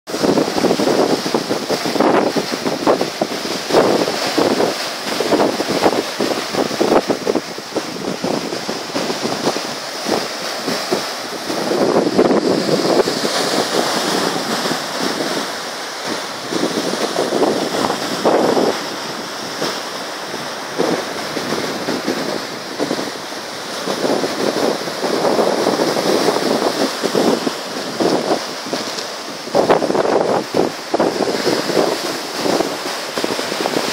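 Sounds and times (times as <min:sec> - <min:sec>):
surf washing over stony shore: 0:00.1 - 0:33.9.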